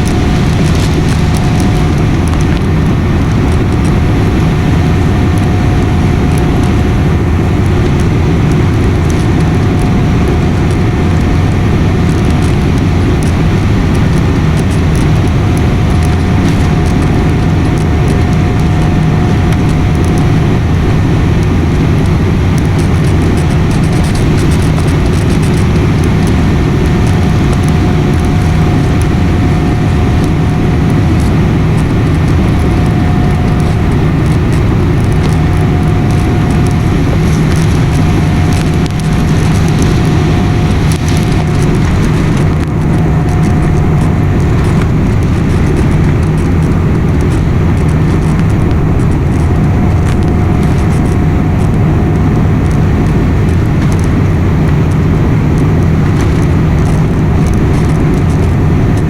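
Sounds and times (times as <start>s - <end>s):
faint high whine: 0.0s - 59.0s
jet engine and airflow rumble: 0.0s - 59.0s.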